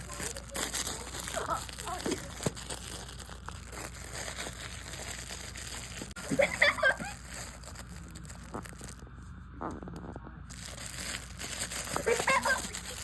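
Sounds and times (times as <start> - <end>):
piglet rustling toys: 0.0 - 13.0.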